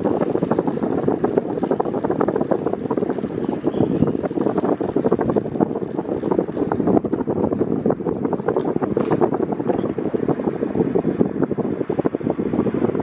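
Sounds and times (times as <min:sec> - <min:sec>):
fan airflow buffeting microphone: 0:00.0 - 0:13.0.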